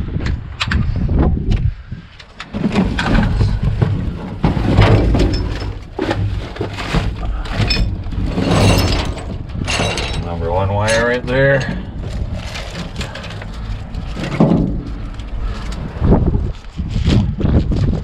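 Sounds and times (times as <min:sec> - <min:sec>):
wind buffeting microphone: 0:00.0 - 0:18.0
knocks and rattles: 0:02.3 - 0:18.0.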